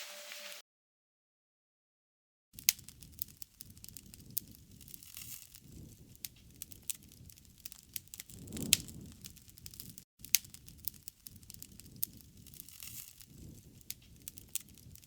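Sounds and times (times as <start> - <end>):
campfire crackling and popping: 2.6 - 15.0
low noisy rush of fire: 2.6 - 15.0.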